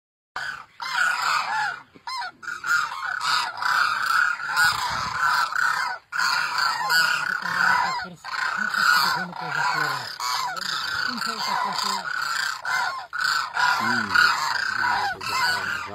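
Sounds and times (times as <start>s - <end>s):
cranes calling: 0.4s - 15.9s.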